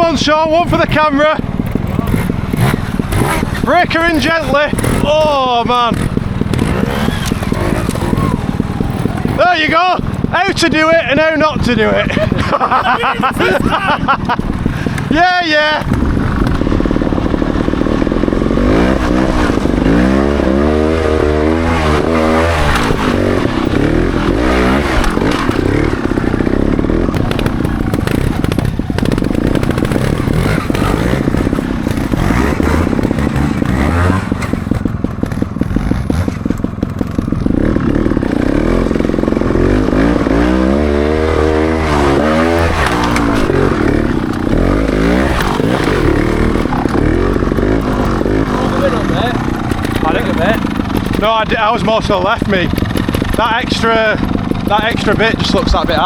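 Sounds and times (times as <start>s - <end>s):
motorcycle clattering: 0.0s - 56.0s
motorcycle engine revving: 0.0s - 56.0s.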